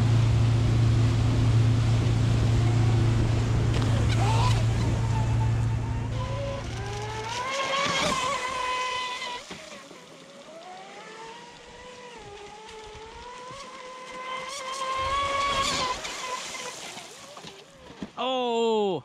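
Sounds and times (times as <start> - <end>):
rc speedboat motor whine: 0.0 - 18.0.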